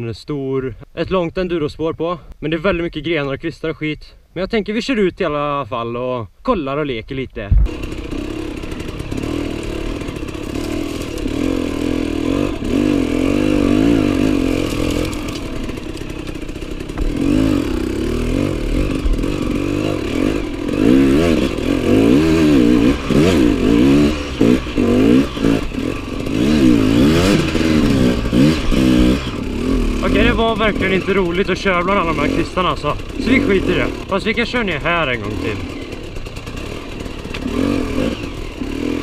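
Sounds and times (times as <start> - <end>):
motorcycle engine revving: 7.5 - 39.0.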